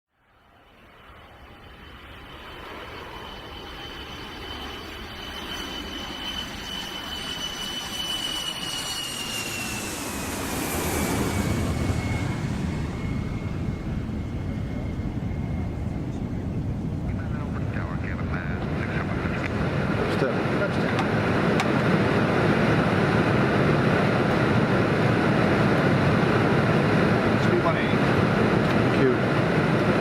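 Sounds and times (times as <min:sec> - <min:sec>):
jet engine whine: 0:00.1 - 0:30.0
low aircraft rumble: 0:00.2 - 0:30.0.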